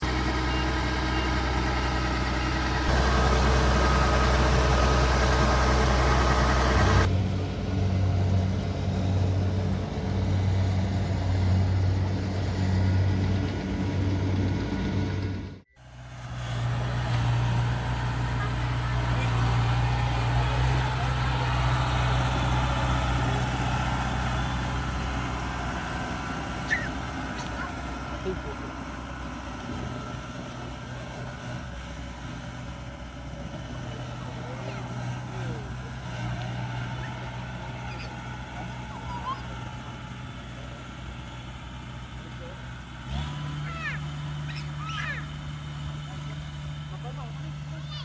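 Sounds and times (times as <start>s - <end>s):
combine harvester running: 0.0s - 48.0s.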